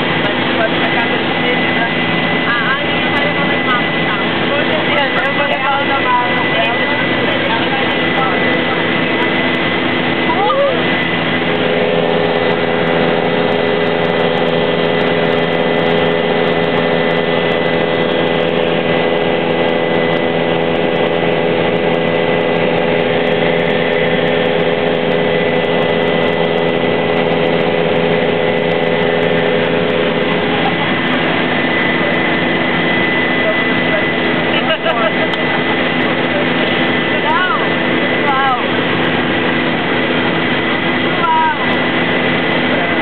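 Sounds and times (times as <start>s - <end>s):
helicopter turbine and rotor noise: 0.0s - 43.0s
high whine: 0.0s - 43.0s.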